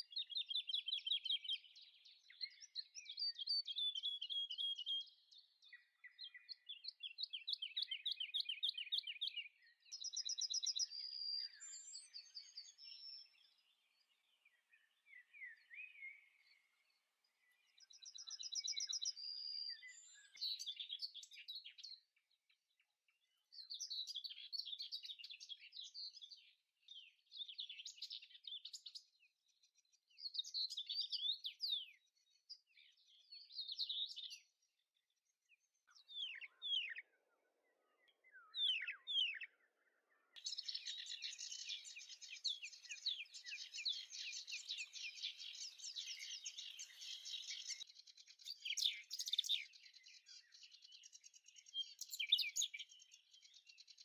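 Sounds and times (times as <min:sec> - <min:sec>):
small birds singing: 0:00.0 - 0:54.0.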